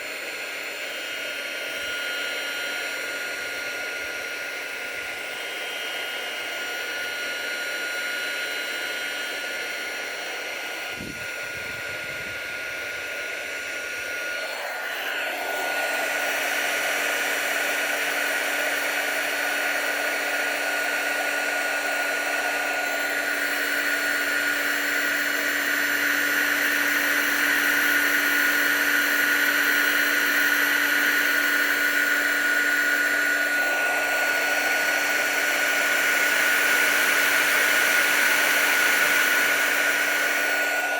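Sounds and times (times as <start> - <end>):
hot-air blower whooshing and whining: 0.0 - 40.9.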